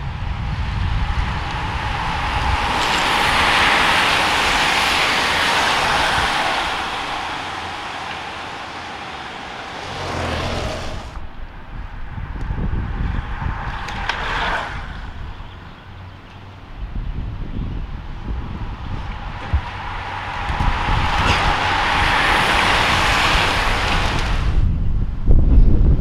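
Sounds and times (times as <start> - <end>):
bicycles rushing past: 0.0 - 25.3
wind rumble on microphone: 0.0 - 26.0.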